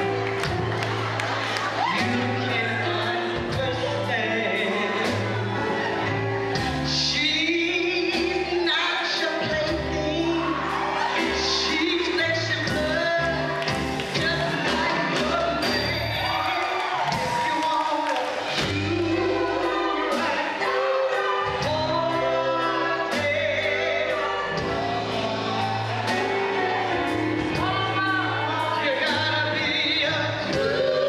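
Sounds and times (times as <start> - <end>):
live band playing: 0.0 - 31.0
woman singing lead: 0.0 - 31.0.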